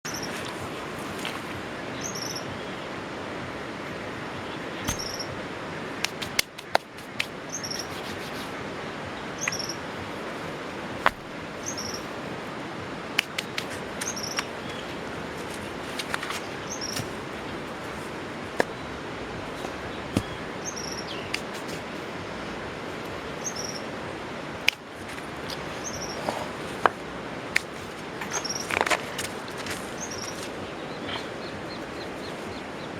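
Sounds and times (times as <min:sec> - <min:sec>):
steady hiss: 0:03.9 - 0:31.4.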